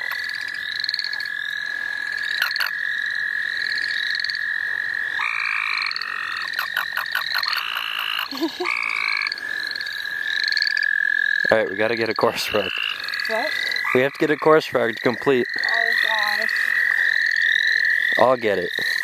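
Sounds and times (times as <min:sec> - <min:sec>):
rising pulsed frog calls: 0:00.0 - 0:19.0
steady high frog trill: 0:00.0 - 0:19.0.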